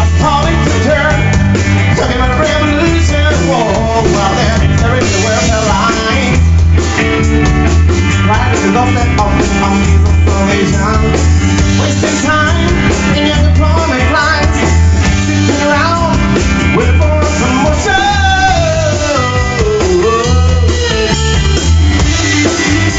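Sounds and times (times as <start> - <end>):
bass and drum beat: 0.0 - 22.9
rock band music: 0.0 - 22.9
sliding melodic lead line: 0.0 - 22.9.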